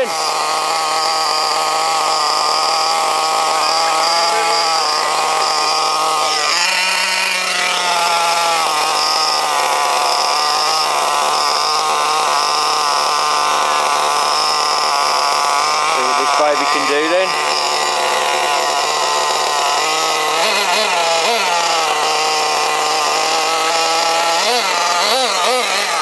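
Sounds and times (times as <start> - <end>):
small two-stroke engine running: 0.0 - 26.0.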